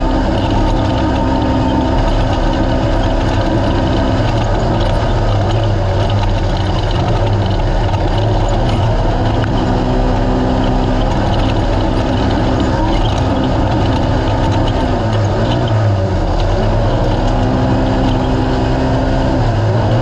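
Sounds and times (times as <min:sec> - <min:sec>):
race car engine droning: 0:00.0 - 0:20.0.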